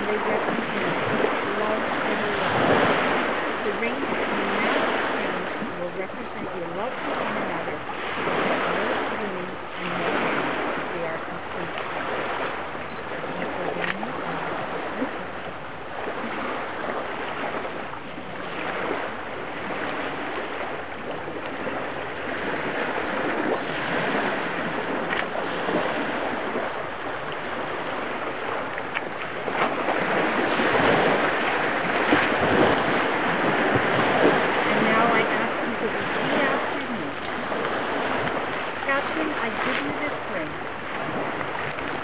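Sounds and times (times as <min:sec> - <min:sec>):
lake water rushing: 0:00.0 - 0:42.0
wind: 0:00.0 - 0:42.0.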